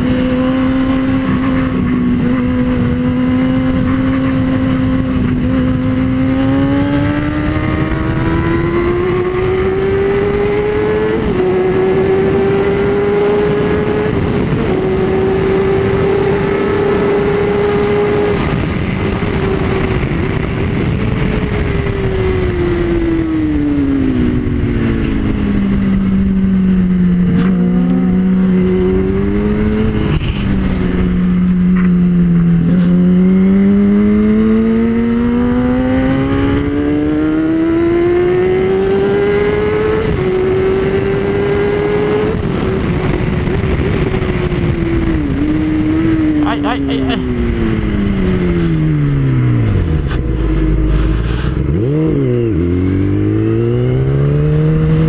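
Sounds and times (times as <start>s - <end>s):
heavy wind noise: 0.0s - 55.0s
motorcycle engine at high speed: 0.0s - 55.0s.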